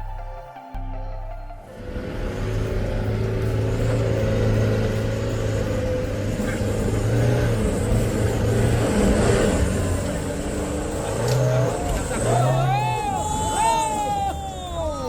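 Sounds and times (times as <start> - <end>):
background music: 0.0 - 15.0
vehicle engine hum: 0.0 - 15.0
road noise: 1.2 - 15.0.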